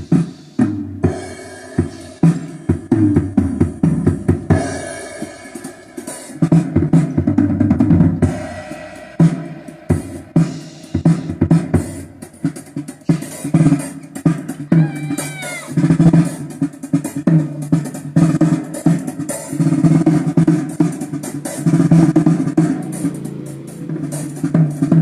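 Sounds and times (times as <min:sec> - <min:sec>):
music with loud drum kit: 0:00.0 - 0:25.0.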